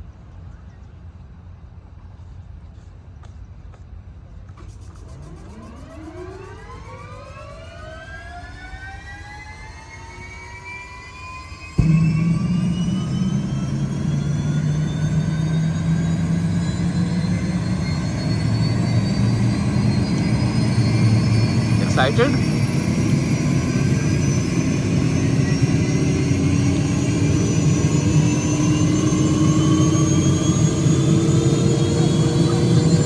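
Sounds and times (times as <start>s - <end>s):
helicopter turbine whine rising: 4.6s - 33.0s
steady low hum: 4.8s - 33.0s.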